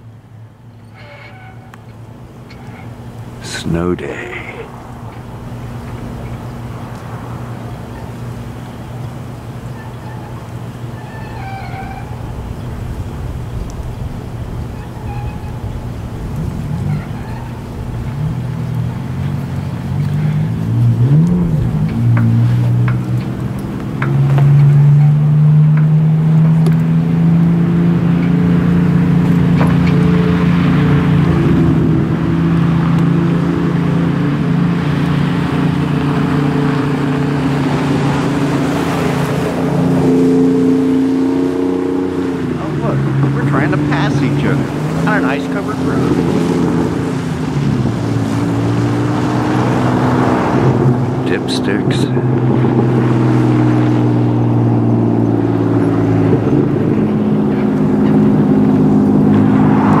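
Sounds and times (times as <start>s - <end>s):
vehicle engines running: 0.0s - 60.0s
vehicles driving past on snowy road: 0.0s - 60.0s.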